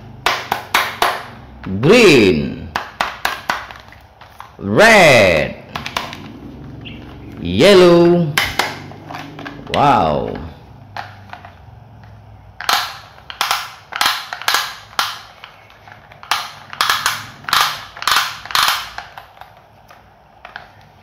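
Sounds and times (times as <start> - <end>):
plastic toy clacking: 0.1 - 2.0, 2.7 - 4.6, 5.7 - 6.4, 8.2 - 21.0.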